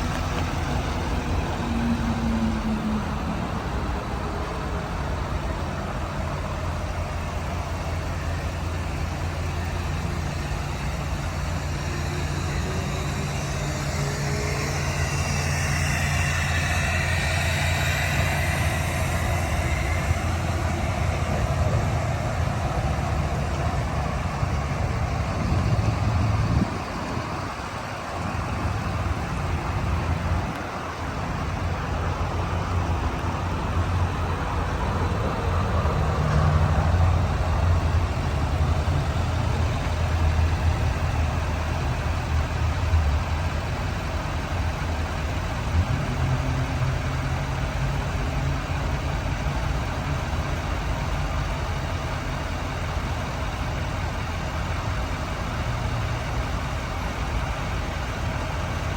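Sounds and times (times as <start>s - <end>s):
diesel pickup engine idling: 0.0s - 58.9s.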